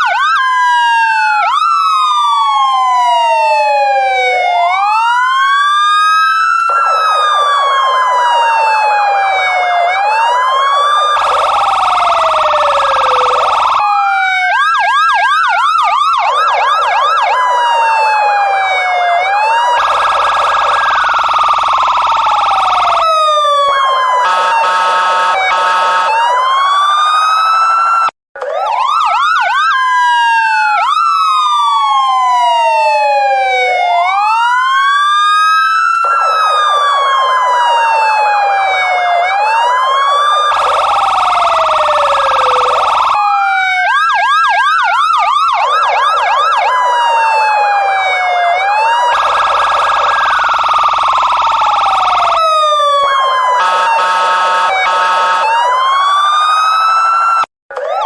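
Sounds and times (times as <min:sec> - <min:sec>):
police siren wailing and yelping: 0:00.0 - 0:58.0.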